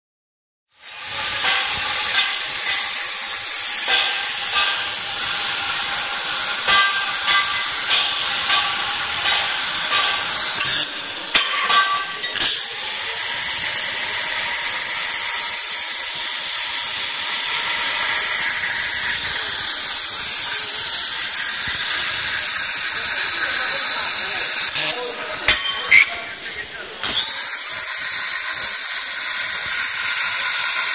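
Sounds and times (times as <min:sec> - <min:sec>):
plasma torch hissing: 0:00.8 - 0:30.9.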